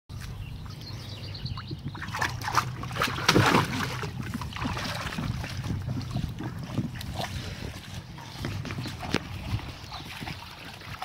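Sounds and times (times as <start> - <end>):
steady low rumble: 0.2 - 11.0
water splashing in kiddie pool: 1.4 - 11.0.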